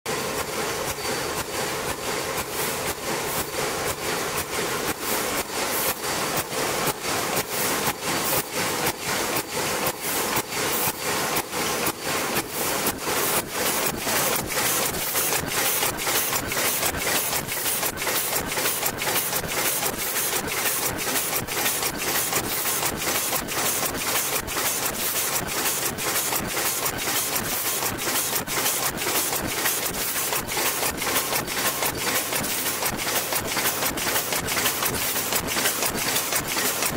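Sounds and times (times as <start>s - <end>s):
machine cycling in rhythmic strokes: 0.1s - 36.9s.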